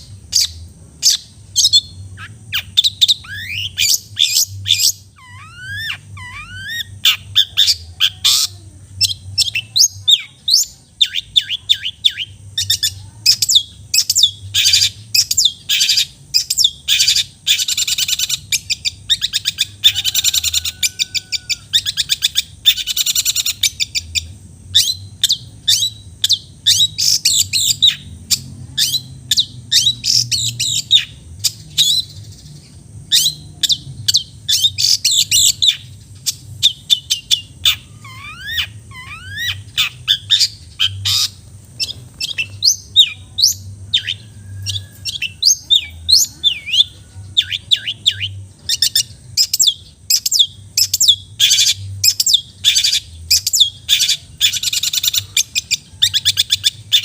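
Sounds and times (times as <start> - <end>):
shrike singing: 0.0 - 57.0.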